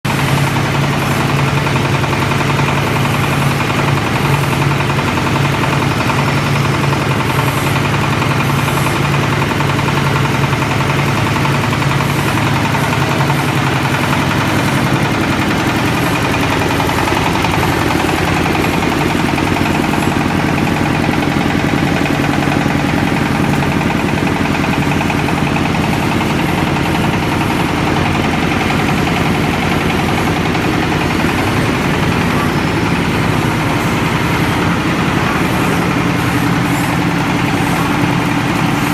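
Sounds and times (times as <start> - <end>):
motor hum: 0.1 - 38.9.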